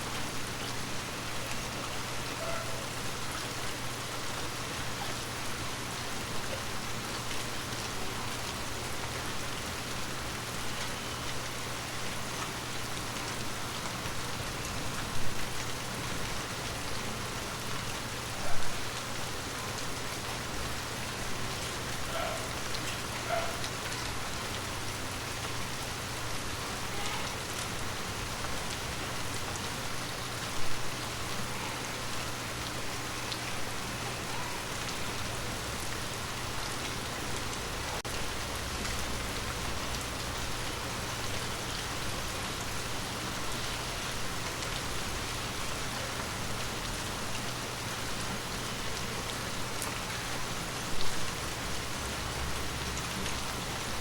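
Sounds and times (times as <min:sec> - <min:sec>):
rain pattering on leaves: 0:00.0 - 0:54.0.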